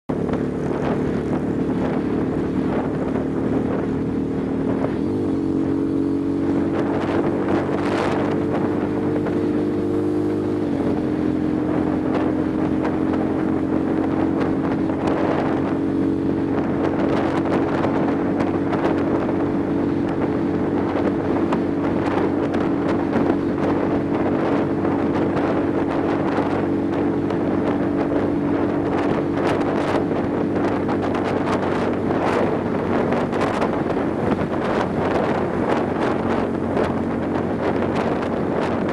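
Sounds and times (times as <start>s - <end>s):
motorcycle engine running: 0.1s - 38.9s
wind buffeting microphone: 0.1s - 38.9s.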